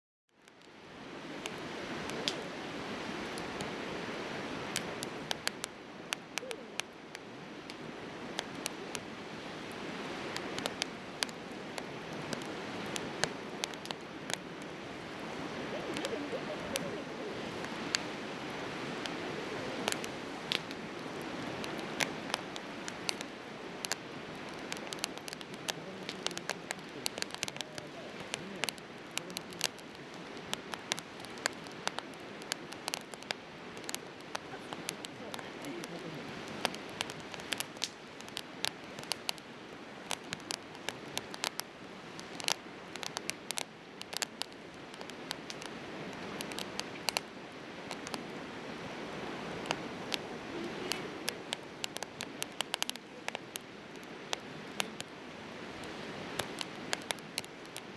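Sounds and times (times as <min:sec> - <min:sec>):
firewood crackling and popping: 0:00.3 - 0:57.9
fire rushing noise: 0:00.5 - 0:57.9.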